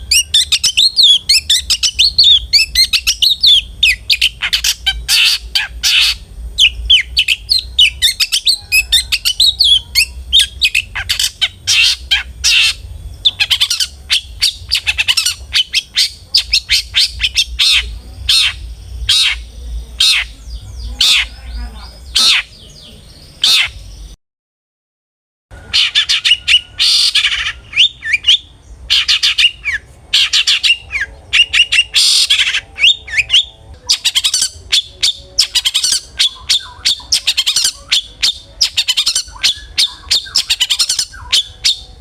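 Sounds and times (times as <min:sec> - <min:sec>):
bird harsh scratchy calls: 0:00.0 - 0:22.6, 0:23.4 - 0:23.9, 0:25.7 - 0:42.0
steady low hum: 0:00.0 - 0:24.2, 0:25.5 - 0:42.0.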